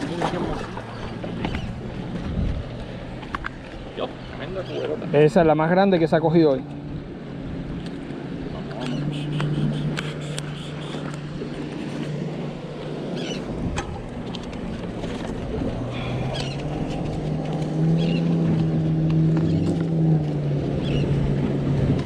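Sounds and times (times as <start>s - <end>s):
motorboat engine humming: 0.0s - 22.0s.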